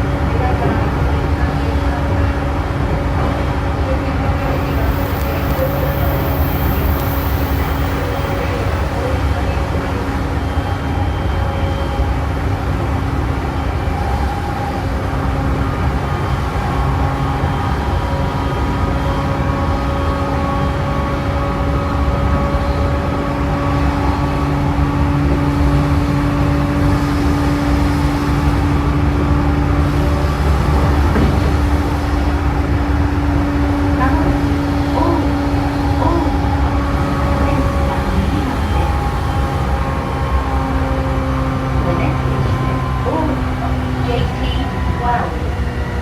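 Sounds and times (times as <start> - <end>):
wheels rumbling on rails: 0.0 - 46.0.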